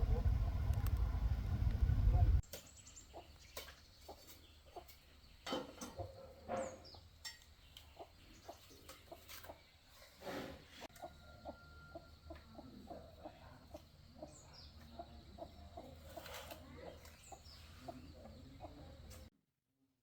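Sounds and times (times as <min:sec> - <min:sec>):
chickens clucking faintly: 0:02.0 - 0:19.3.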